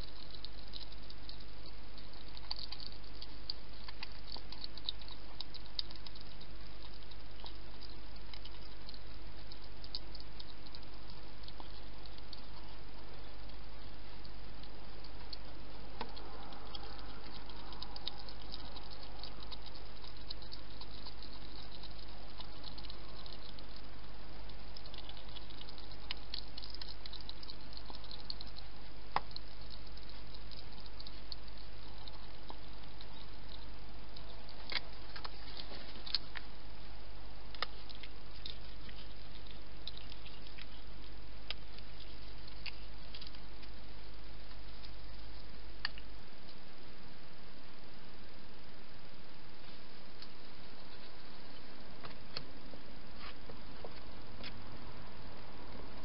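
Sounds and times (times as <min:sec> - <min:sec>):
hedgehog eating clicks: 0:00.0 - 0:46.9, 0:50.0 - 0:56.0
steady low hum: 0:00.0 - 0:56.0.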